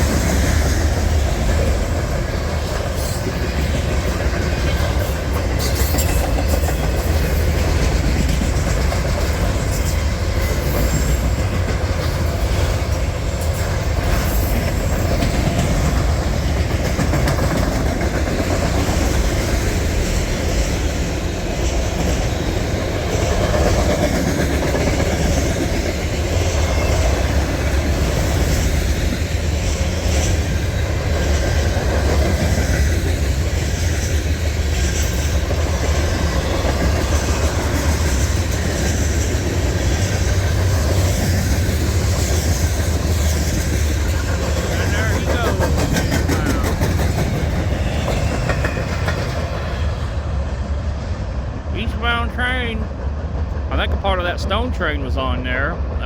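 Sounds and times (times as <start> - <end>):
wheels clattering over rails: 0.0 - 49.9
freight train rumbling past: 0.0 - 56.0.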